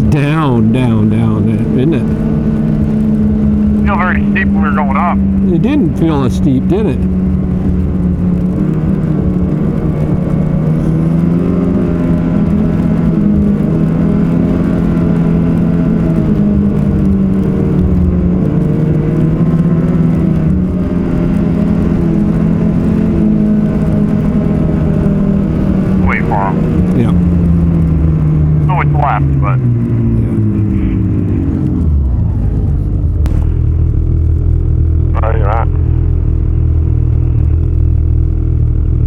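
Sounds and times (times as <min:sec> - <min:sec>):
snowmobile engine running: 0:00.0 - 0:39.0.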